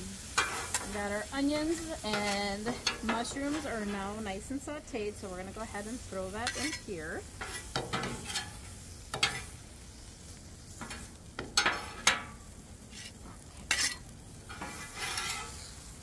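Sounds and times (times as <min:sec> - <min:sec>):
faint sizzling of vegetables: 0:00.0 - 0:16.0
metal spatulas scraping griddle: 0:00.1 - 0:04.2, 0:05.5 - 0:09.6, 0:10.7 - 0:16.0.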